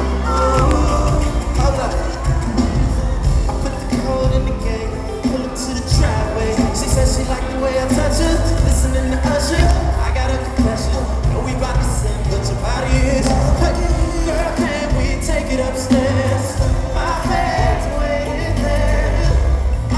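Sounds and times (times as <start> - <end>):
amplified concert bass: 0.0 - 19.9
person singing live: 0.0 - 19.9.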